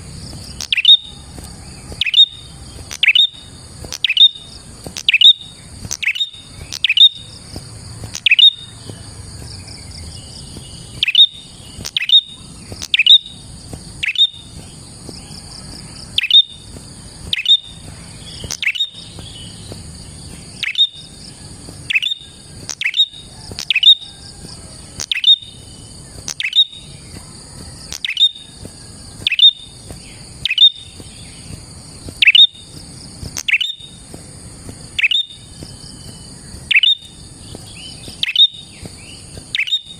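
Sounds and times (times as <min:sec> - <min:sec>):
bird sharp chirps: 0:00.3 - 0:34.0, 0:34.9 - 0:39.9.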